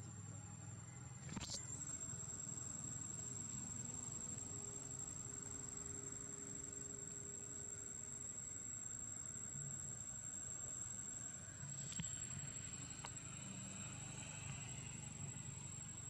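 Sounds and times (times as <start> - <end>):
crickets trilling: 0.0 - 16.0
faint low hum: 0.0 - 16.0.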